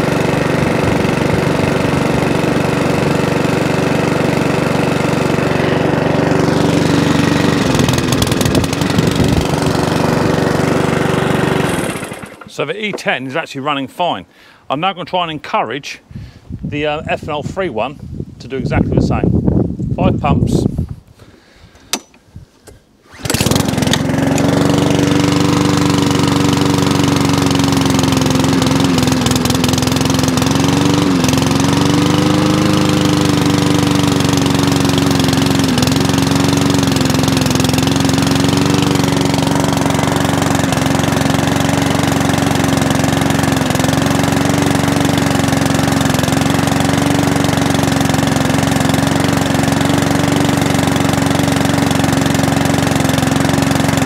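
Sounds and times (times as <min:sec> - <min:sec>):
primer pumps: 0:00.0 - 0:13.2, 0:21.2 - 0:54.0
lawnmower engine running: 0:00.0 - 0:13.4, 0:23.0 - 0:54.0.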